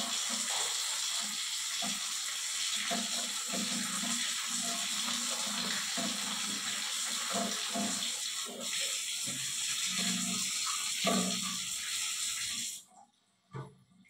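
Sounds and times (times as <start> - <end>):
shower water running: 0.0 - 12.9.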